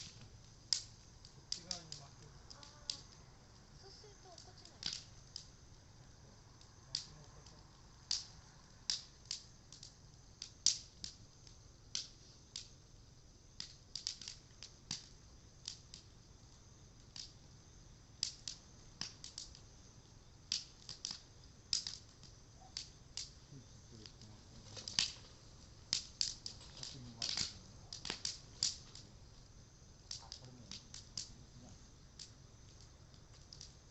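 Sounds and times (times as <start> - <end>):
bonfire crackling and popping: 0.0 - 33.9.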